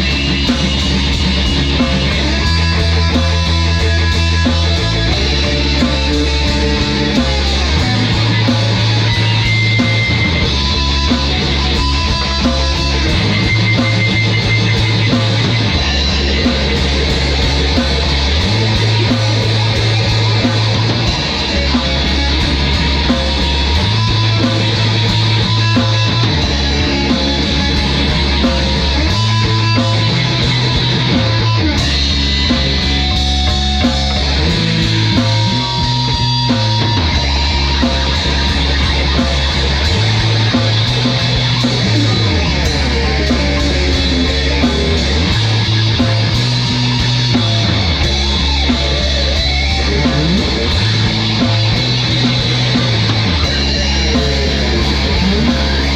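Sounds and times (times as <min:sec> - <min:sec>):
heavy rock music: 0:00.0 - 0:55.9.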